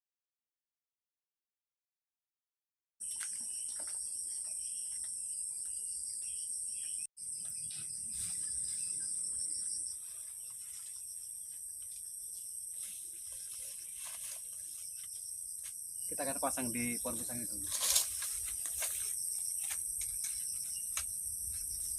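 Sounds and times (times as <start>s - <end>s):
insects trilling: 3.0s - 21.9s.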